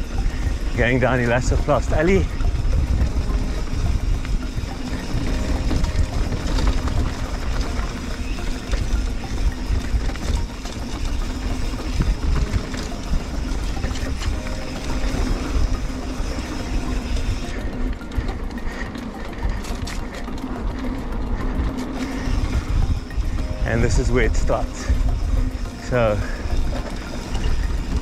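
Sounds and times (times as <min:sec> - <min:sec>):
bike clicks and rattles: 0:00.0 - 0:28.0
tyre and trail noise: 0:00.0 - 0:28.0
wind buffeting microphone: 0:00.0 - 0:28.0.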